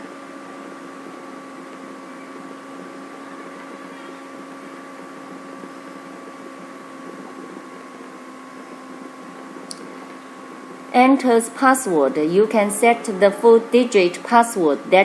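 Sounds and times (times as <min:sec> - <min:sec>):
electrical hum with tones: 0:00.0 - 0:15.0.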